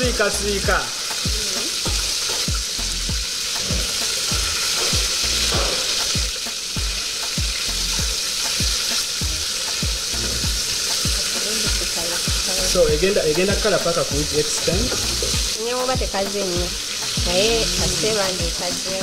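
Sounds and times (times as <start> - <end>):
low thumping beat: 0.0 - 19.0
meat sizzling in a pot: 0.0 - 19.0.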